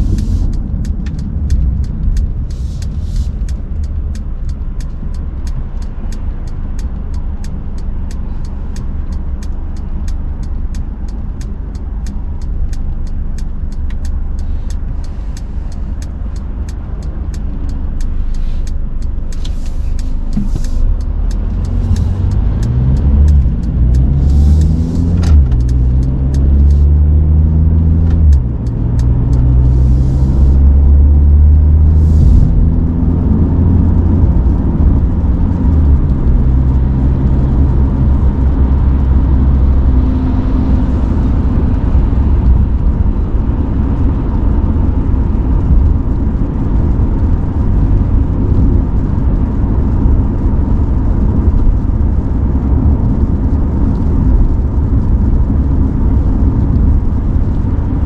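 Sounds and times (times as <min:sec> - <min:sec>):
car engine drone: 0:00.0 - 0:58.0
tyre and road rumble: 0:00.0 - 0:58.0.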